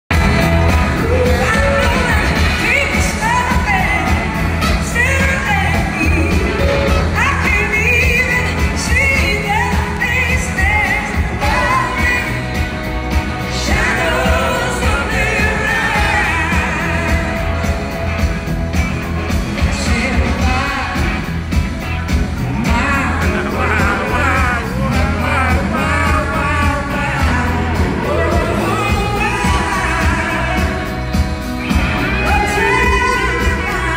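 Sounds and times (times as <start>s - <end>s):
live rock band playing: 0.1s - 33.9s
woman singing lead: 0.2s - 21.5s, 22.4s - 33.9s.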